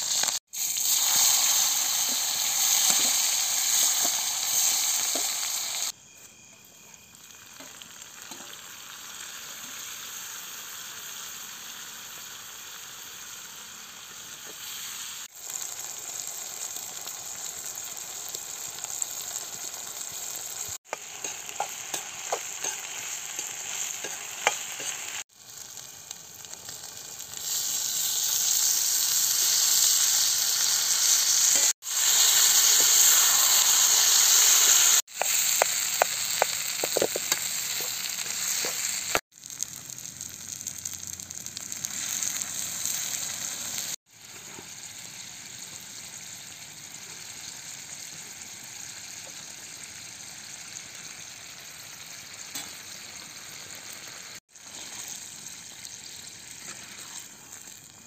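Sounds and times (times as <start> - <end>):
potatoes sizzling in pan: 0.0 - 58.0.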